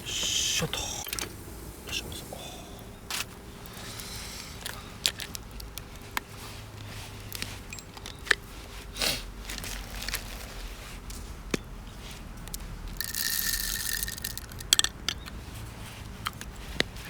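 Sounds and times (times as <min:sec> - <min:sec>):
rustle: 0:00.0 - 0:17.0
camp gear clicking and tapping: 0:03.0 - 0:17.0.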